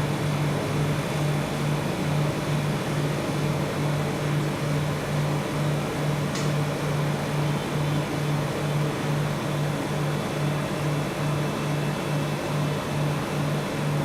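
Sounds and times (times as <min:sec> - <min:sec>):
pulsing mechanical hum: 0:00.0 - 0:14.0.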